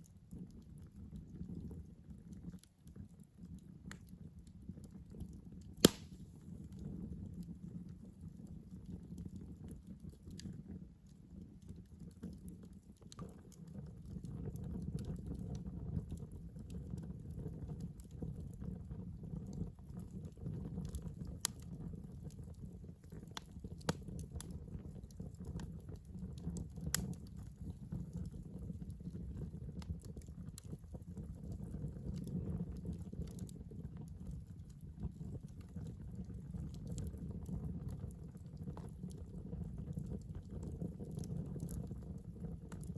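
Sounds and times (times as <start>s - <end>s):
campfire crackling and popping: 3.8s - 6.8s, 8.9s - 42.9s.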